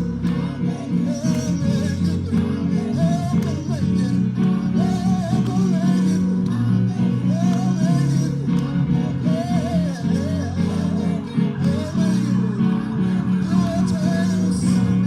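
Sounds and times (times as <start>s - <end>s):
instrumental music with sustained chords: 0.0s - 15.0s.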